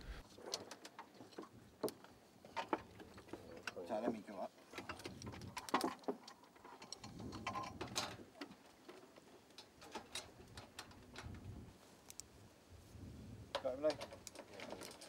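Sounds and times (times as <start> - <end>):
light clicks and knocks of metal frame: 0.1 - 12.3, 13.5 - 15.0.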